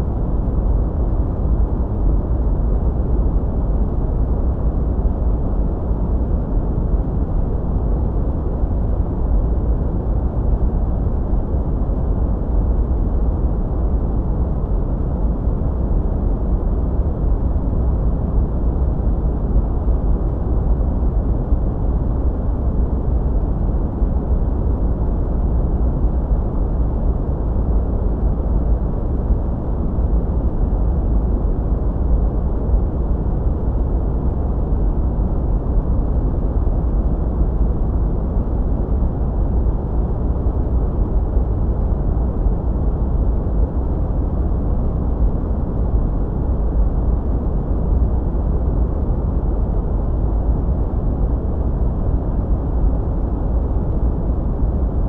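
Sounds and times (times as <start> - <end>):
deep muffled hiss and rumble: 0.0 - 55.0.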